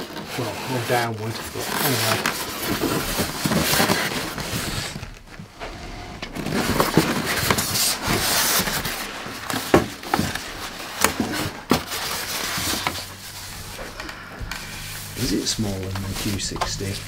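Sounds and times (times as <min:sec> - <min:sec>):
foam scraping against cardboard: 0:00.0 - 0:17.0.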